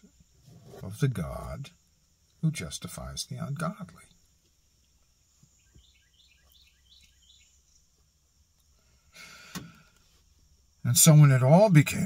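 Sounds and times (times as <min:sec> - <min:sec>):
faint bird chirps: 0:00.0 - 0:11.1.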